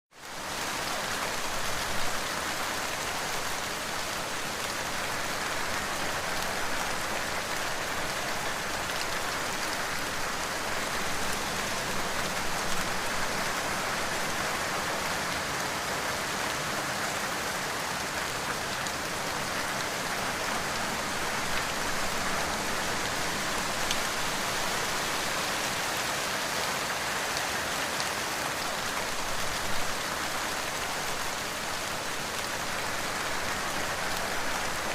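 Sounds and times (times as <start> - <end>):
steady rain patter: 0.1 - 34.9.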